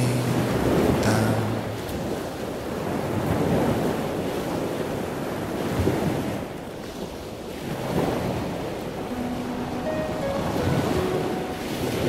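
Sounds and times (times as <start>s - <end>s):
ocean surf on beach: 0.0s - 12.0s.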